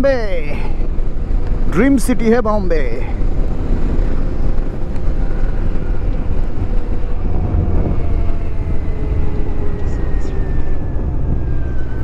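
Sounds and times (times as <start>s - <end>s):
faint steady whine: 0.0s - 12.0s
road noise: 0.0s - 12.0s
wind rushing over microphone: 0.0s - 12.0s
motorcycle engine: 0.8s - 12.0s.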